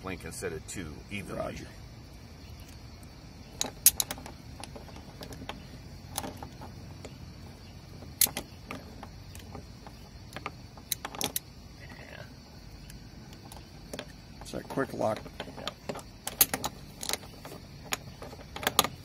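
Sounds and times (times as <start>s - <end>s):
metal snap links clinking: 2.6s - 12.0s, 12.7s - 19.0s.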